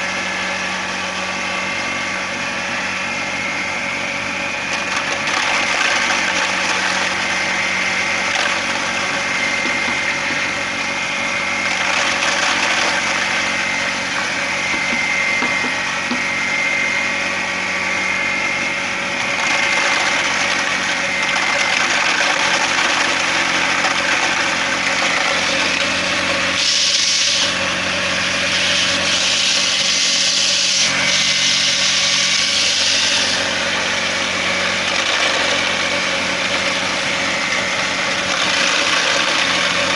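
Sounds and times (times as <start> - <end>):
grain grinder running: 0.0 - 39.9.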